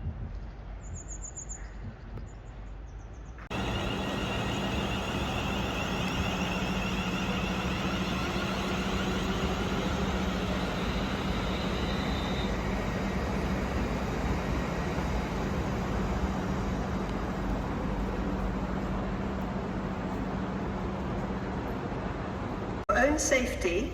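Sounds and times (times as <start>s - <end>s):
constant low hum: 0.0s - 23.4s
train running noise: 2.0s - 23.6s.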